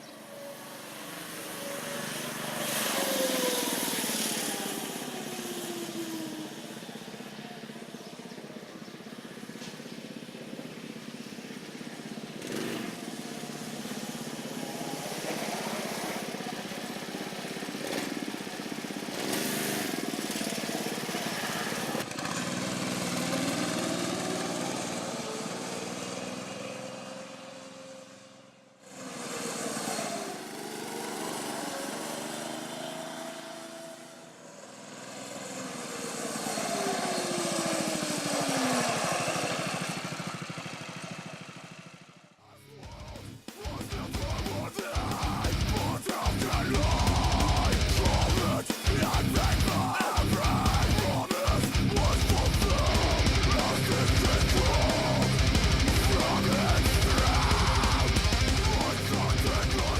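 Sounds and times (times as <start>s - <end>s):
mini bike engine revving: 0.0s - 59.9s.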